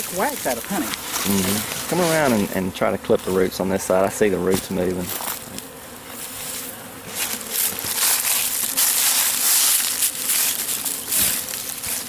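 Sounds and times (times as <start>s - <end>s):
digging in soil and roots: 0.0s - 3.6s, 4.4s - 12.0s.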